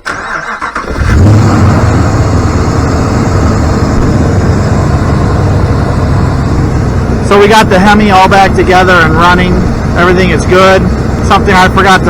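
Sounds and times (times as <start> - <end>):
truck engine starting and running: 0.0 - 12.0.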